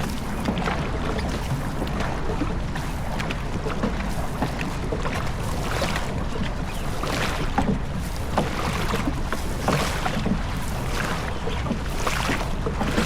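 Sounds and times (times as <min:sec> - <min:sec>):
oar stroke splash and knock: 0:00.0 - 0:13.0
water rushing: 0:00.0 - 0:13.0.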